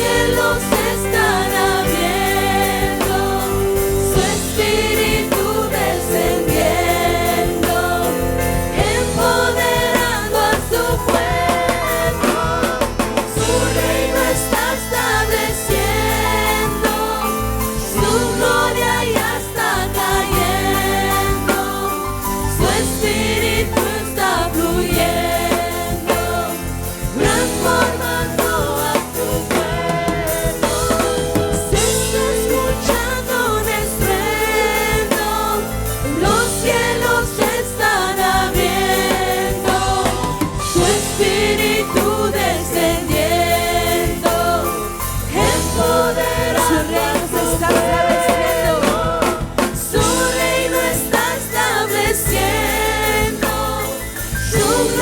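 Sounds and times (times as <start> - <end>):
worship song singing: 0.0 - 55.0.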